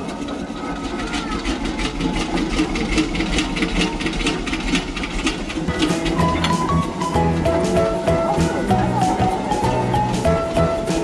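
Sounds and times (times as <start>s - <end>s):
fast mechanical clatter: 0.0s - 8.9s
machinery low rumble: 0.0s - 11.0s.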